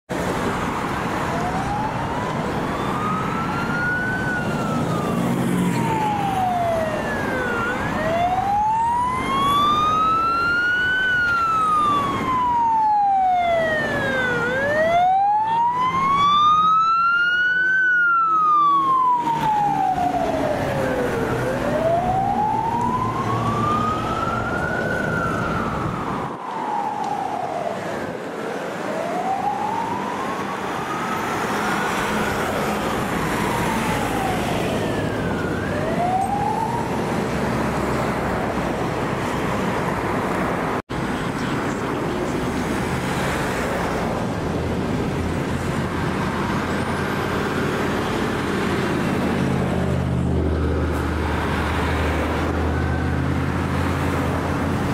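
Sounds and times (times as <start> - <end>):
fire truck siren wailing: 0.1 - 54.9
traffic and truck engines rumbling: 0.1 - 54.9.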